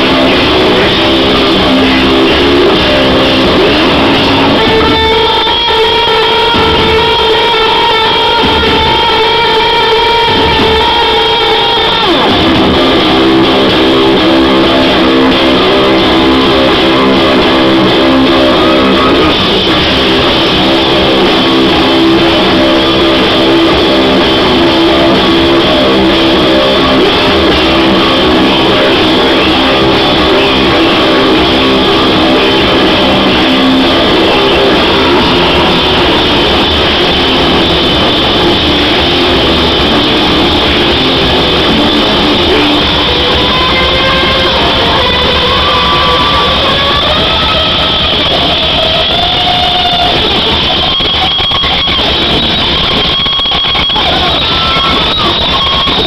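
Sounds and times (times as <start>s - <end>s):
electric guitar chords: 0.0s - 56.0s
live rock band playing: 0.0s - 56.0s.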